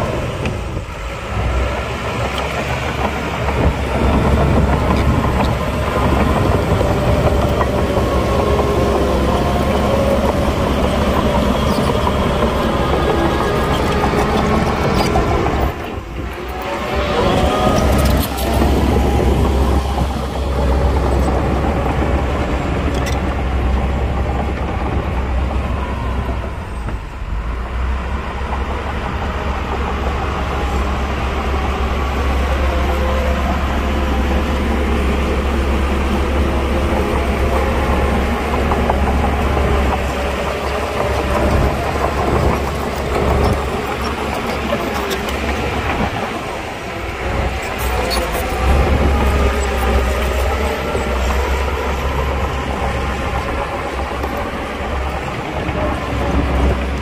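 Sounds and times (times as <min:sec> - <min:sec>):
earthmoving machine diesel engines: 0:00.0 - 0:57.0.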